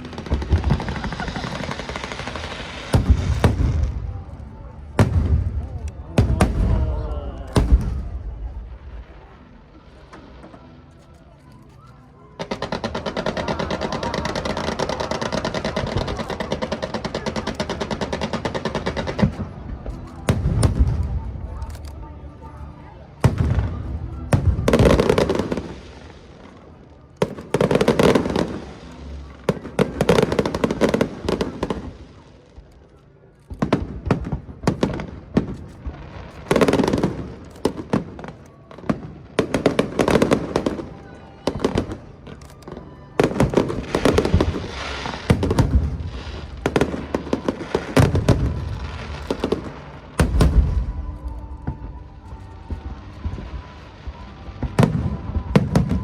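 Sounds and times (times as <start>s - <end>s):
fireworks bursting: 0.0s - 10.7s, 12.4s - 21.6s, 23.2s - 32.9s, 33.5s - 56.0s.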